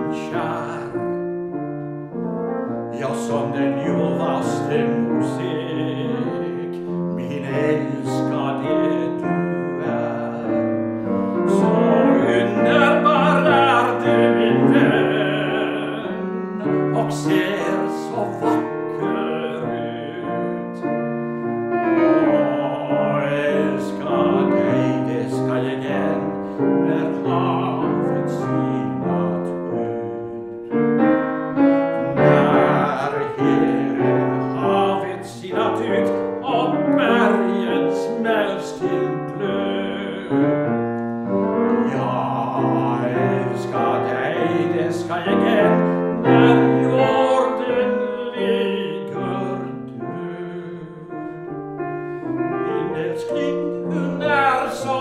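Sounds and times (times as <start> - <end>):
tenor singing: 0.0 - 1.6, 2.2 - 55.0
grand piano: 0.0 - 55.0.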